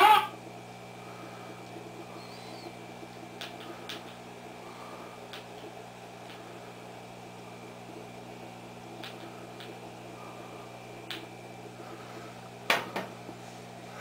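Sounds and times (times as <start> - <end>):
television set humming: 0.0 - 14.0.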